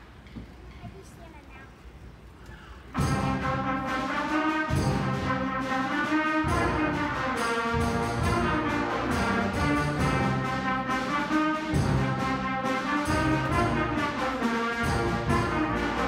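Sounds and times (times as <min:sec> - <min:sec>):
concert band playing chords: 0:03.0 - 0:16.0.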